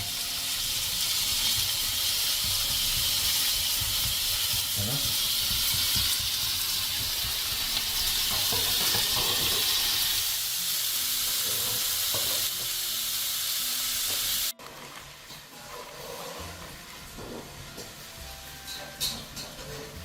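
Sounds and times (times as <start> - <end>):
meat sizzling: 0.0 - 19.8.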